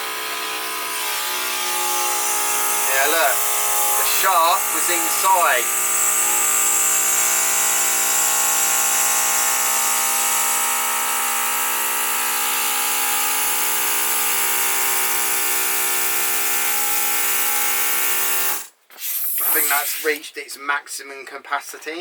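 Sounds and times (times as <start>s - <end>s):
electric balloon pump buzzing: 0.0s - 20.2s.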